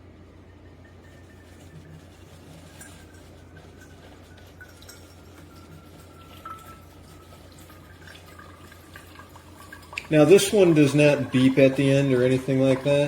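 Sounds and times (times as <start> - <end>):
coffee maker humming: 0.0 - 13.0
coffee trickling into cup: 0.5 - 13.0.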